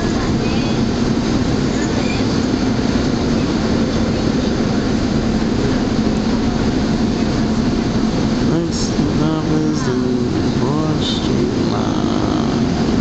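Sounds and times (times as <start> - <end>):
constant low hum: 0.0 - 13.0
trolley rumbling on rails: 0.0 - 13.0.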